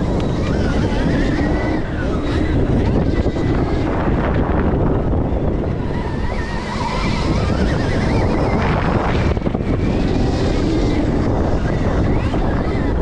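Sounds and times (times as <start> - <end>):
electric motor whine: 0.0 - 13.0
wind buffeting microphone: 0.0 - 13.0.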